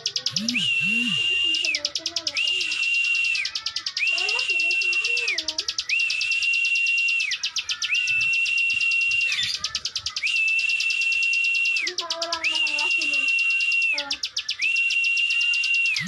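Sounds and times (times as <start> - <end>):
low wavering bird warble: 0.0 - 14.6
songbird whistle with clicking rattle: 0.0 - 16.0.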